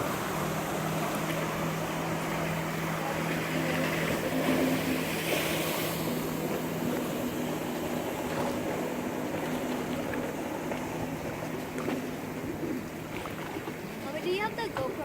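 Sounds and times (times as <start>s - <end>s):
jet ski engine: 0.0s - 15.0s
water rushing: 0.0s - 15.0s.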